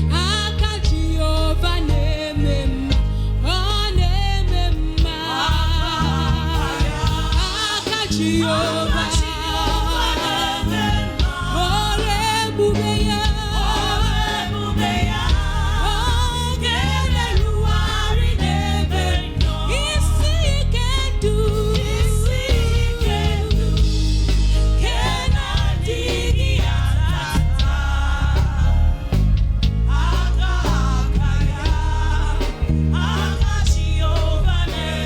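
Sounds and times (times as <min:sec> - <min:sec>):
band with steady bass: 0:00.0 - 0:35.0
gospel voices singing: 0:00.0 - 0:35.0.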